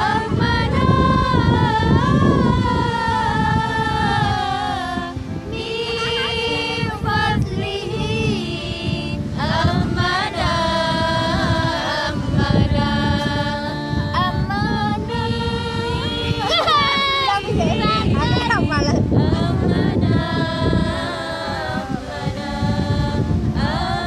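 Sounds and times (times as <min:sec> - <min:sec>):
women singing devotional songs: 0:00.0 - 0:24.0.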